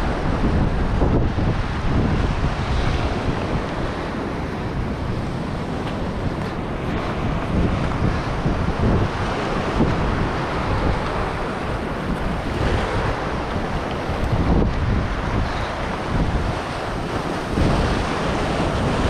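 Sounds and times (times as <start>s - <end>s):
ocean surf breaking on rocks: 0.0s - 19.0s
wind buffeting microphone: 0.0s - 19.0s.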